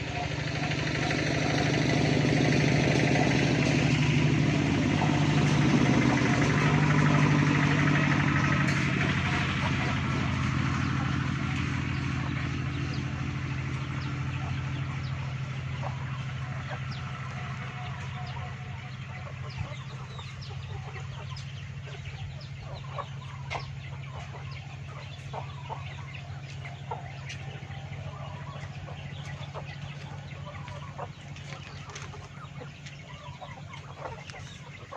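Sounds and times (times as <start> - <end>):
chickens clucking: 0.0 - 34.9
engine low hum: 0.0 - 34.9.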